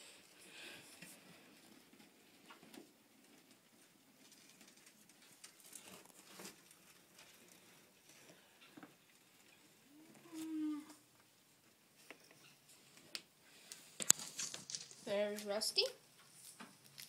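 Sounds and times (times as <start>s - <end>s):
faint clicks and rustles: 0.1s - 17.0s.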